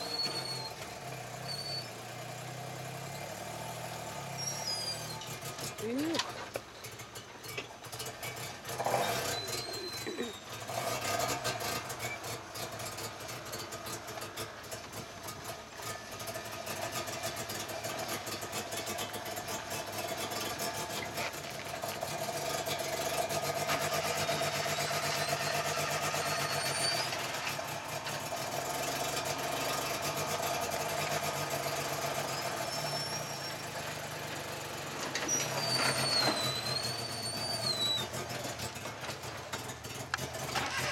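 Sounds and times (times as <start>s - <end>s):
off-road vehicle engine under load: 0.0s - 40.9s.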